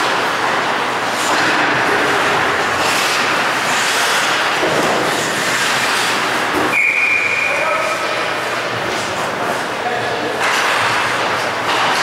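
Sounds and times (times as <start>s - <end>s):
ice hockey game din: 0.0s - 12.0s
skates scraping ice: 0.0s - 12.0s.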